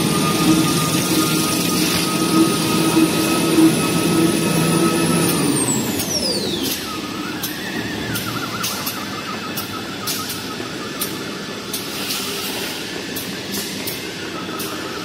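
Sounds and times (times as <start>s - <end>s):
rewinding machine clatter: 0.0s - 15.0s.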